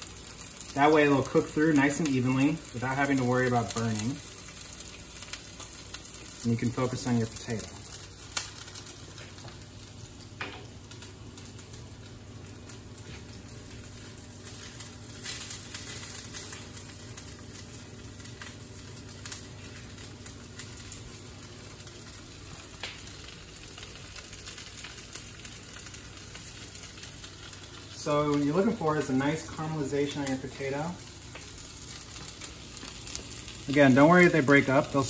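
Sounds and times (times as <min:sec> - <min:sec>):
potatoes sizzling in oil: 0:00.0 - 0:35.0
sharp crackles: 0:00.0 - 0:35.0.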